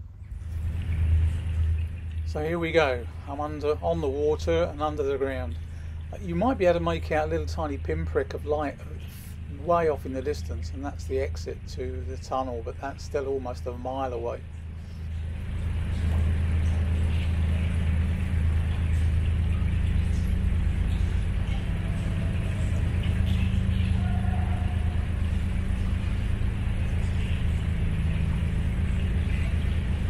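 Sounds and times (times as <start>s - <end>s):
diesel engine rumbling in a tunnel: 0.0s - 30.0s.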